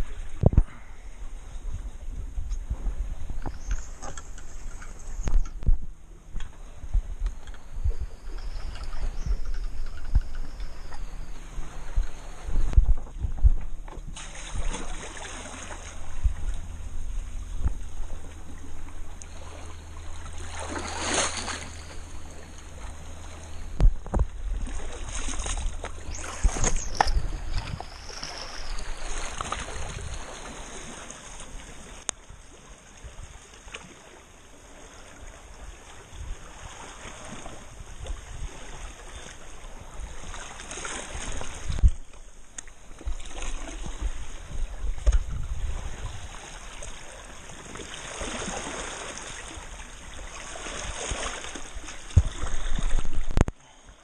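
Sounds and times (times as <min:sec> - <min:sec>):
sea water lapping and splashing: 0:00.0 - 0:54.0.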